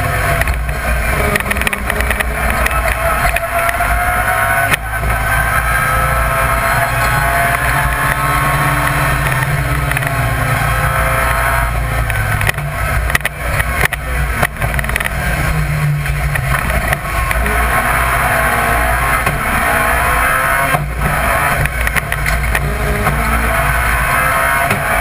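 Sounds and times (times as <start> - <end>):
rally car engine running hard: 0.0 - 25.0.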